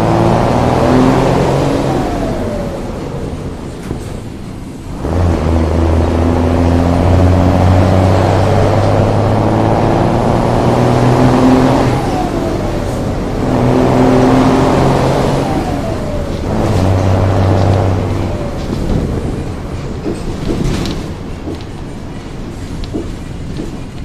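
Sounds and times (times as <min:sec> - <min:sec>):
bus diesel engine rumbling: 0:00.0 - 0:24.0.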